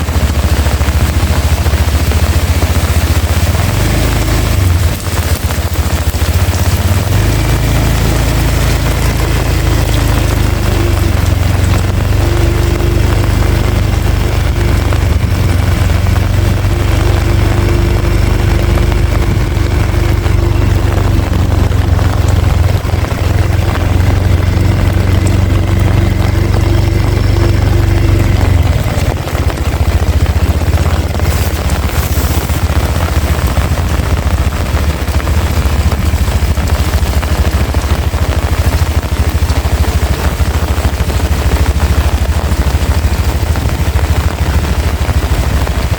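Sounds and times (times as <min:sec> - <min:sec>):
heavy rain falling: 0:00.0 - 0:45.9
low rumble: 0:00.0 - 0:45.9.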